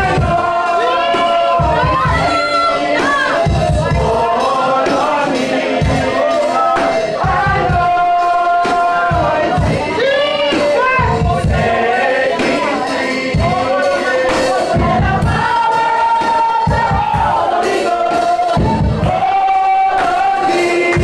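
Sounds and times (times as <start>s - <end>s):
heavy low beat: 0.0s - 21.0s
voices singing gospel: 0.0s - 21.0s.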